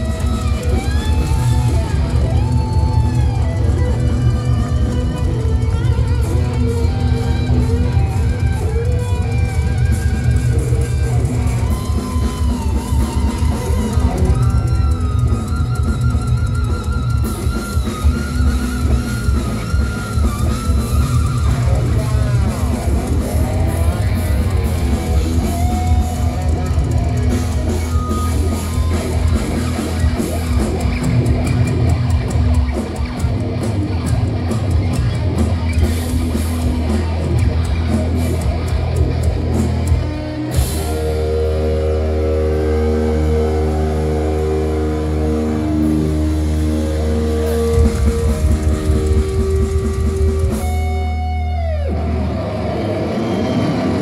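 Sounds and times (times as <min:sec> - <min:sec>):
distorted electric guitars: 0:00.0 - 0:54.0
fast drums: 0:00.0 - 0:54.0.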